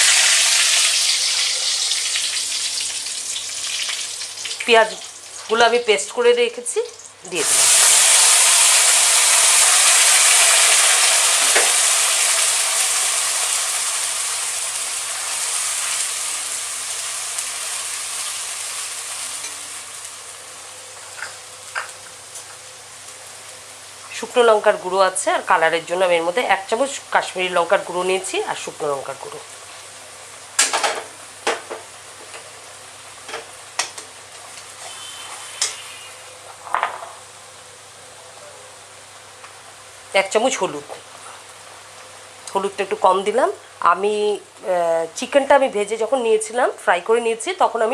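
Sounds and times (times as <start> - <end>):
onion paste sizzling in oil: 0.0 - 47.9.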